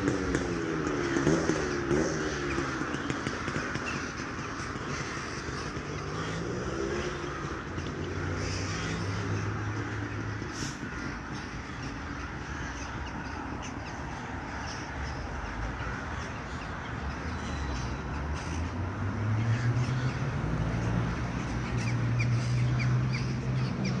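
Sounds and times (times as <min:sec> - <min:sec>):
crows cawing: 0:00.0 - 0:23.9
busy outdoor background: 0:00.0 - 0:24.0.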